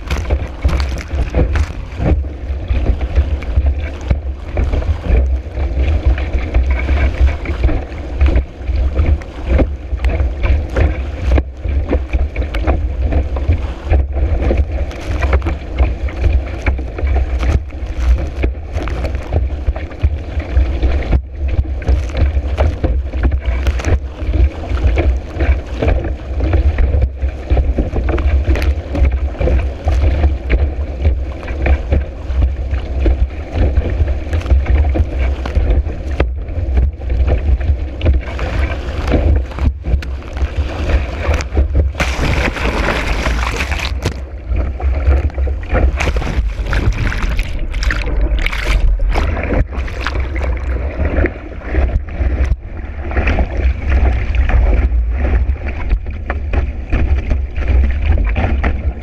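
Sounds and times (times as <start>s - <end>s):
water slapping against board: 0.0s - 59.0s
wind buffeting microphone: 0.0s - 59.0s.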